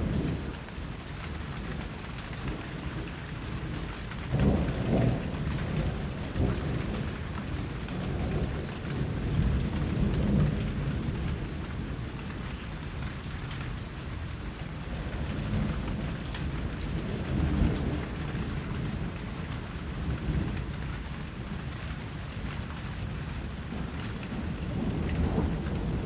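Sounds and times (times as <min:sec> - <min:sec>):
low thunder rumbling: 0:00.0 - 0:13.3, 0:14.1 - 0:26.0
steady rain falling: 0:00.0 - 0:26.0.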